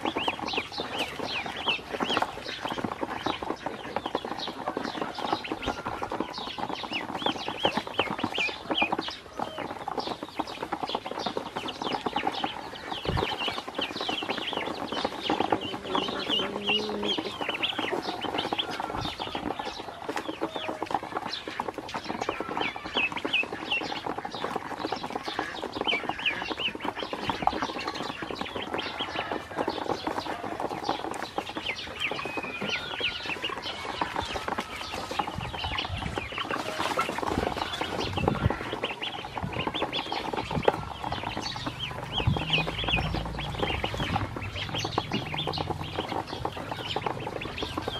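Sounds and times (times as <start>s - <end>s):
ducklings peeping: 0.0s - 47.9s.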